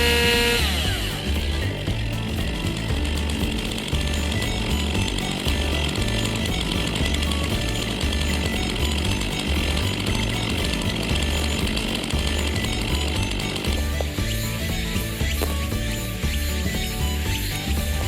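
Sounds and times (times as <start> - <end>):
background music with bass line: 0.0 - 18.0
chainsaw running: 0.0 - 18.0.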